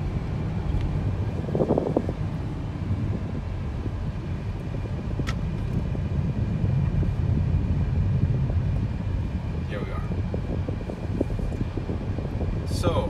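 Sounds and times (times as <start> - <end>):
vehicle engine and tyres rumbling: 0.0 - 13.0.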